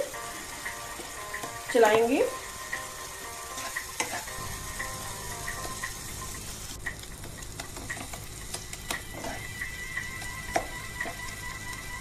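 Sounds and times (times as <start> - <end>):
masala frying hiss: 0.0 - 12.0.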